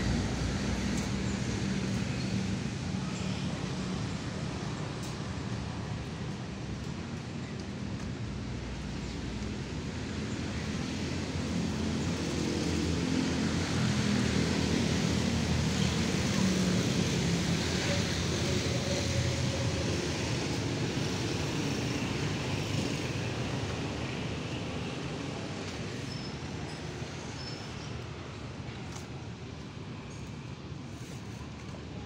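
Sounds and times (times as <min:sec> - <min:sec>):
passing vehicles hum: 0:00.0 - 0:06.8, 0:08.3 - 0:32.0.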